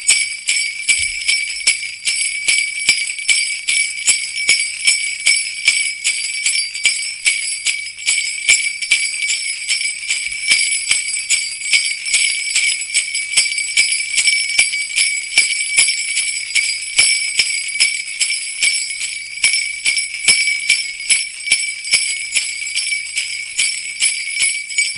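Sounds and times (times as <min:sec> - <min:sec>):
sleigh bells jingling: 0:00.0 - 0:24.9.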